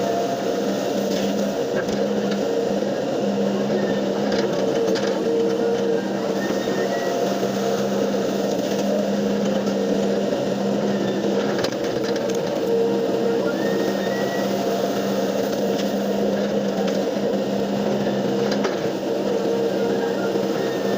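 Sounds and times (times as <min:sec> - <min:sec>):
excavator diesel engine droning: 0:00.0 - 0:20.9.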